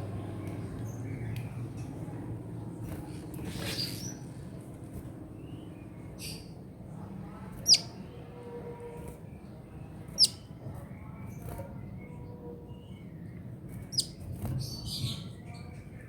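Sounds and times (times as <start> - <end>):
soft hissy bird chirp: 0.0 - 16.0.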